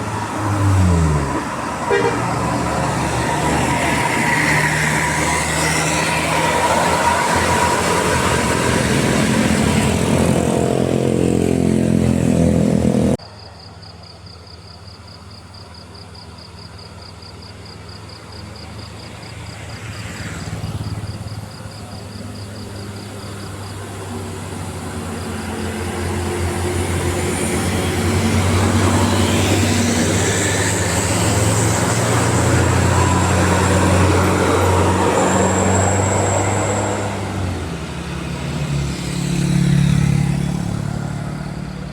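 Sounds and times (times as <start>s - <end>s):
large vehicle engine passing: 0.0s - 13.2s, 18.2s - 41.9s
bus engine humming uphill: 0.0s - 41.9s.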